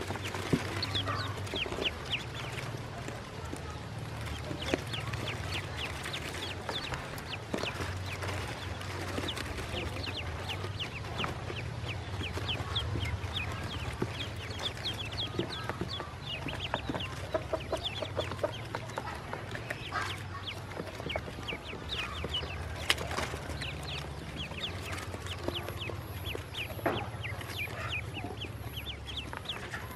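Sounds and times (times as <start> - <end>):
ducklings peeping: 0.0 - 29.9.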